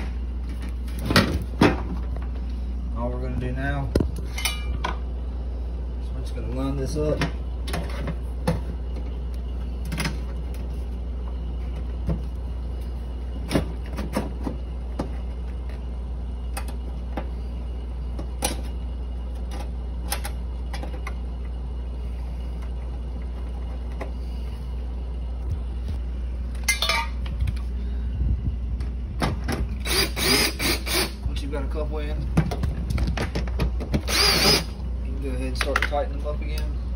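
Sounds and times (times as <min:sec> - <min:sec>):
refrigerator compressor humming: 0:00.0 - 0:36.9.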